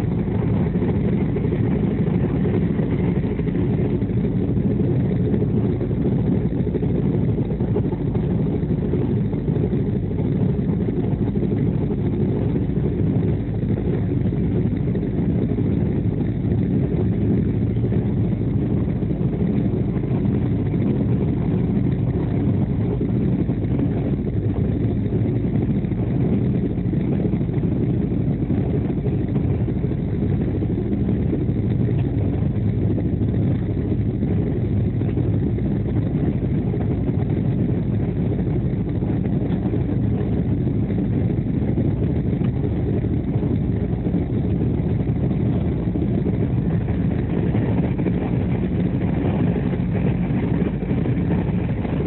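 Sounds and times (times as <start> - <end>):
train rumbling inside coach: 0.0 - 52.0.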